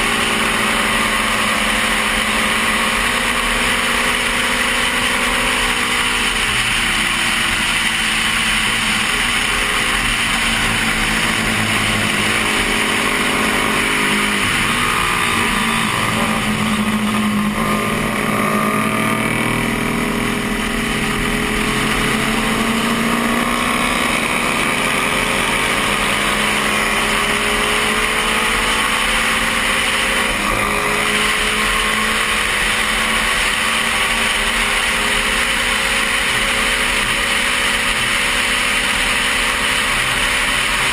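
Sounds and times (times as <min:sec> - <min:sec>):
motorcycle engine racing: 0:00.0 - 0:40.9.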